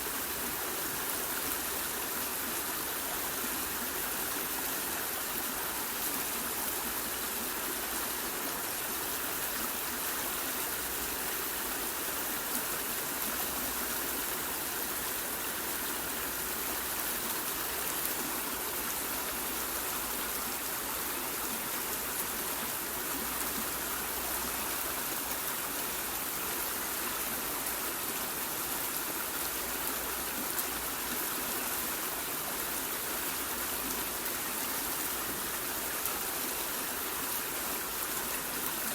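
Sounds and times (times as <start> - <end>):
waterfall and stream rushing: 0.0 - 38.9.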